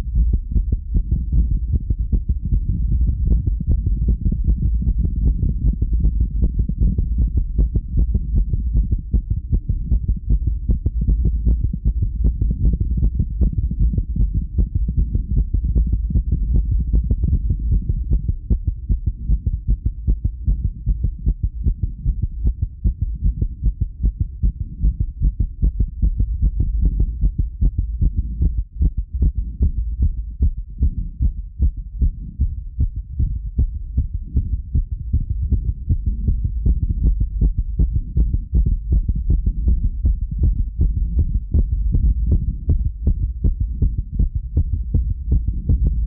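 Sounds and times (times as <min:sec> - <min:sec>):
heartbeat: 0:00.0 - 0:46.0
low rumble: 0:00.0 - 0:46.0.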